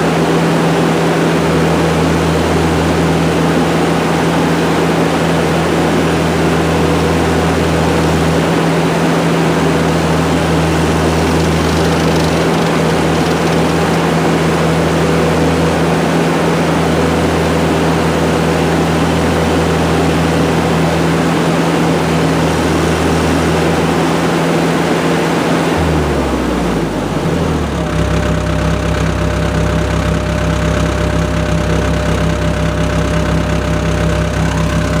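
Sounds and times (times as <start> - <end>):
track loader diesel engine: 0.0 - 35.0.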